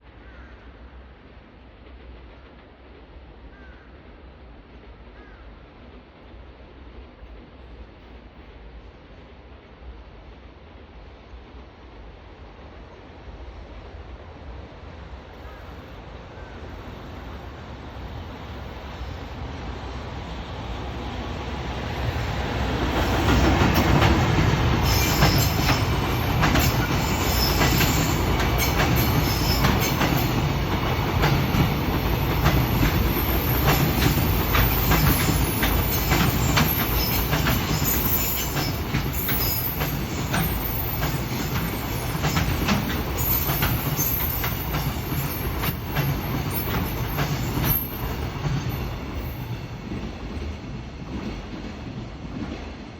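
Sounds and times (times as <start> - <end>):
freight train rumbling past: 0.0 - 52.9.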